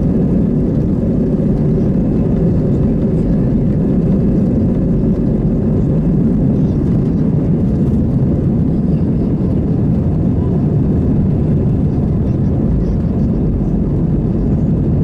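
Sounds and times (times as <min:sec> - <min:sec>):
aircraft cabin engine roar: 0:00.0 - 0:15.0.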